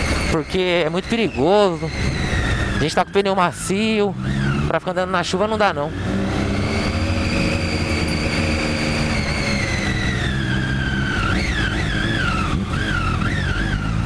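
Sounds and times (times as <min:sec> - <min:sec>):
motorcycle engine whine: 0:00.0 - 0:14.0.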